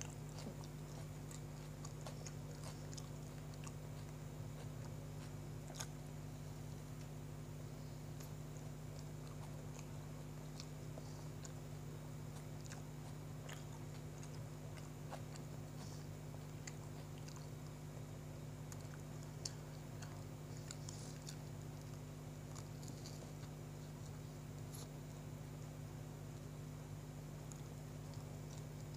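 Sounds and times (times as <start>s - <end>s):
person chewing: 0.0s - 25.3s, 27.4s - 28.9s.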